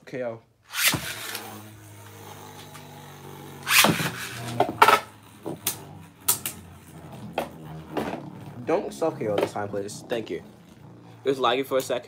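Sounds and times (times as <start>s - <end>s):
spinning top launch whirring: 0.6s - 12.0s
spinning top humming: 0.7s - 12.0s.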